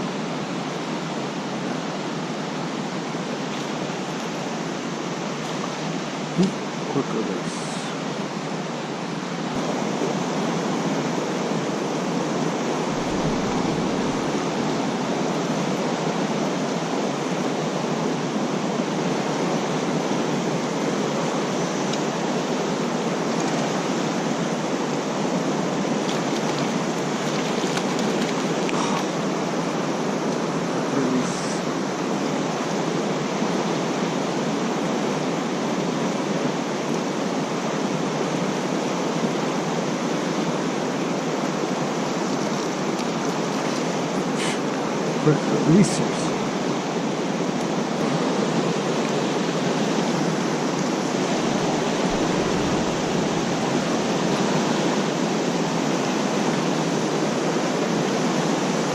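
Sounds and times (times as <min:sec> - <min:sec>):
creek water rushing: 0:00.0 - 0:58.9.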